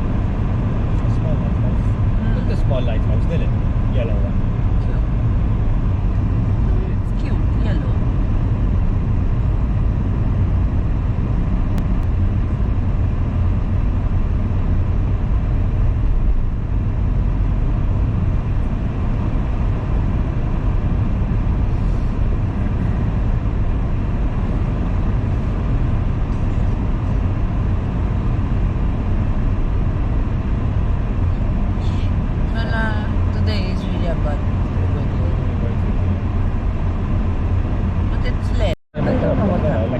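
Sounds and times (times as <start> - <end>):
car driving road rumble: 0.0 - 39.9.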